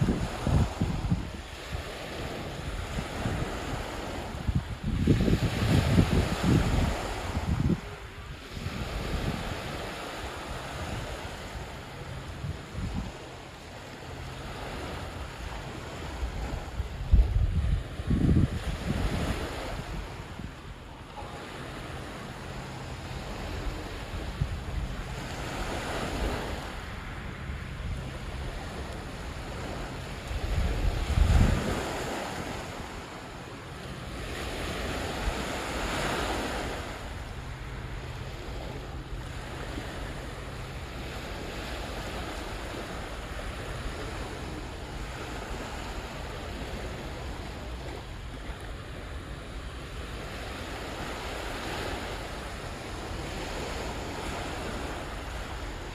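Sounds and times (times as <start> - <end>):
small waves washing onto shore: 0.0 - 55.9
wind buffeting microphone: 0.0 - 55.9.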